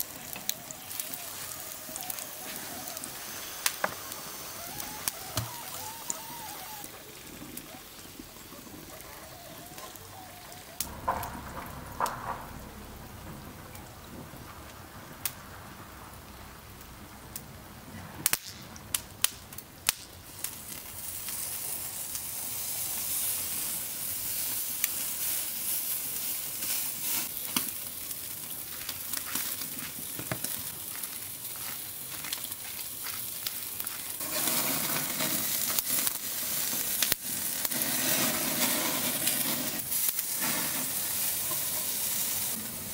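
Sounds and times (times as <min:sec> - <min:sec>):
steak sizzling on a grill: 0:00.0 - 0:13.0, 0:20.3 - 0:42.9.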